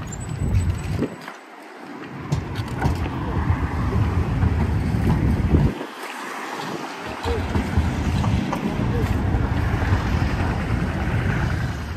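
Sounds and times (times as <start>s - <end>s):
tram wheels rumbling on rails: 0.0s - 11.9s.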